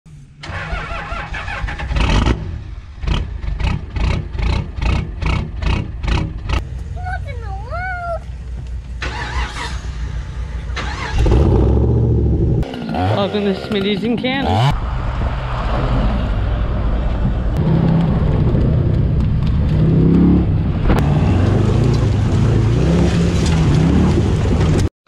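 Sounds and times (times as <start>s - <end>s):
engine revving: 0.4s - 6.8s, 9.0s - 24.9s.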